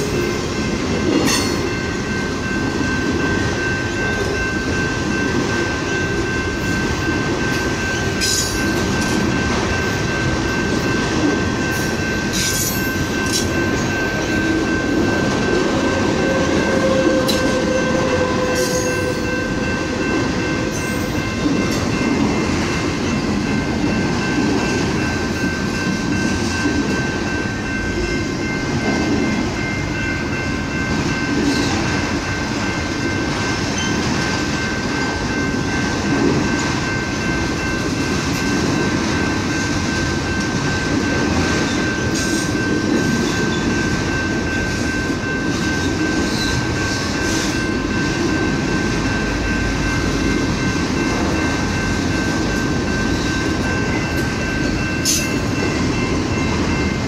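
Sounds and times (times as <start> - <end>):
freight train wheels rumbling: 0.0 - 57.0
high-pitched tone: 0.0 - 57.0.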